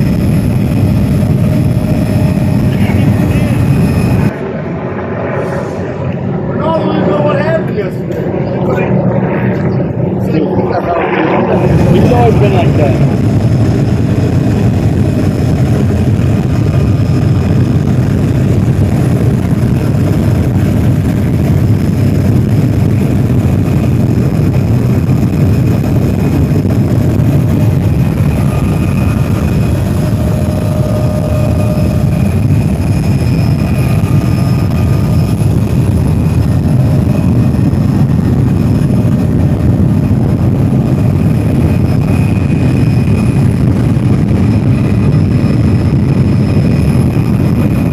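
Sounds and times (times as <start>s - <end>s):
faint high whine: 0.0s - 47.9s
helicopter engine and rotor: 0.0s - 47.9s.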